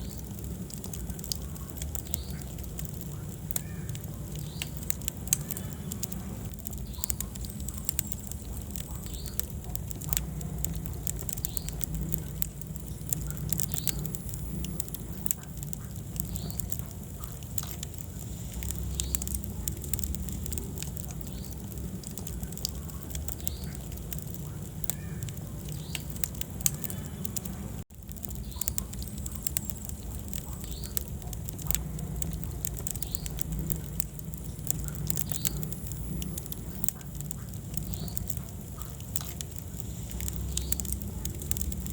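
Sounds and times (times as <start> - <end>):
fire crackling and popping: 0.0 - 41.9
low rumble of flames: 0.0 - 41.9.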